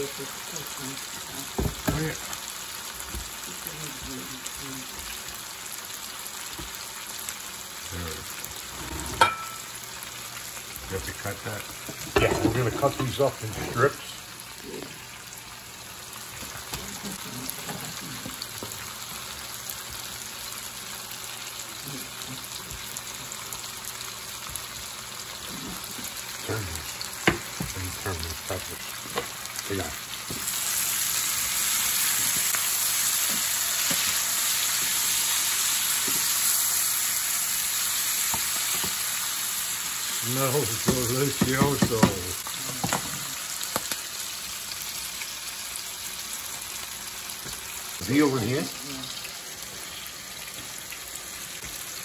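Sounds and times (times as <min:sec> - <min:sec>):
vegetables sizzling in a pot: 0:00.0 - 0:52.0.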